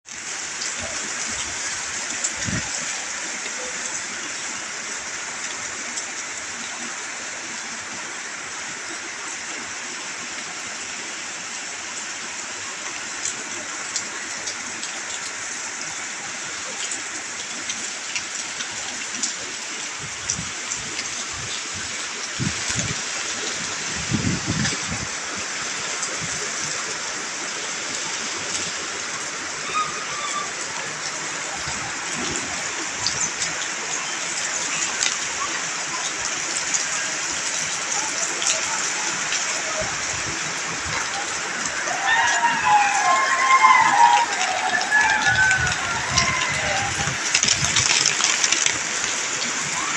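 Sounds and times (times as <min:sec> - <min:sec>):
flood water rushing: 0:00.0 - 0:49.9.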